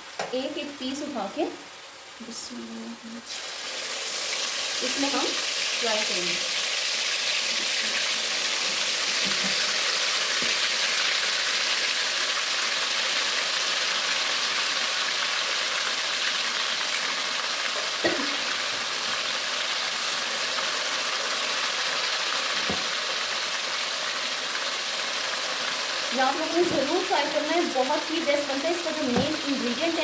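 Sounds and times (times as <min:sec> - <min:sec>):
beef sizzling in oil: 0:03.2 - 0:30.0.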